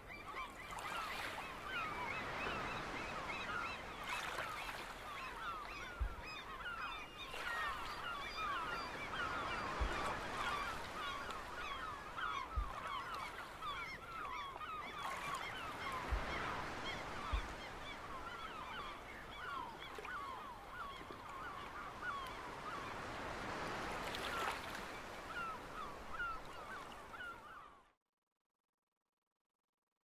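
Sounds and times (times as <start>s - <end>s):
flock of birds calling: 0.0s - 27.7s.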